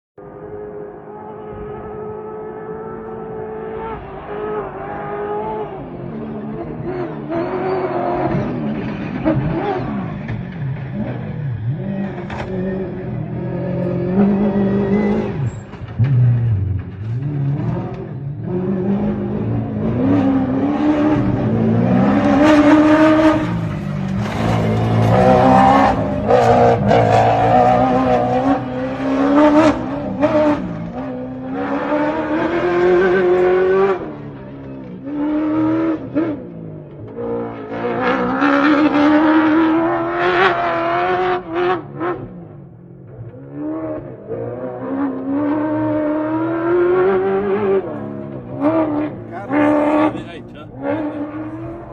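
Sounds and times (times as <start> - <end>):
truck engine revving: 1.1 - 51.9.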